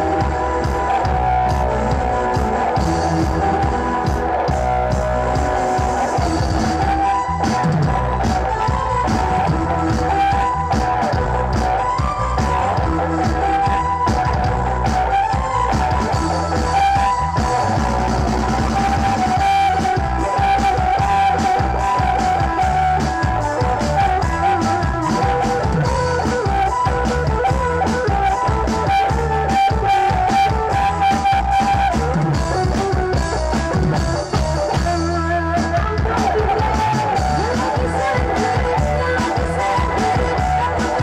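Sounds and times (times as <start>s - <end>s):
amplified melody through loudspeakers: 0.0s - 41.0s
bass drum beating: 0.0s - 41.0s.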